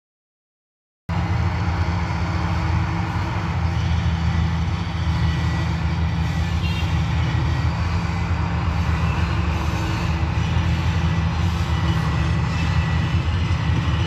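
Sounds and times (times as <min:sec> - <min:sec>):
locomotive diesel engine drone: 0:01.1 - 0:14.0.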